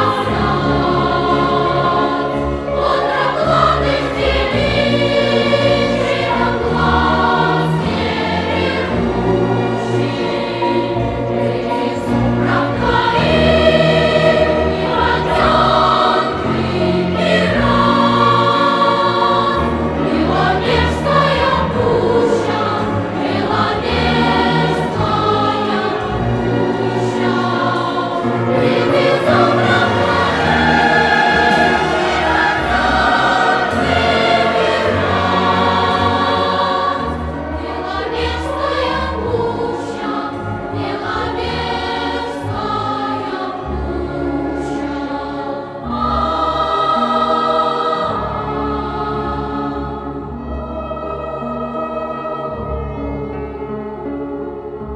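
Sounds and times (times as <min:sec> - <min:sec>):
choir singing long notes: 0:00.0 - 0:54.9.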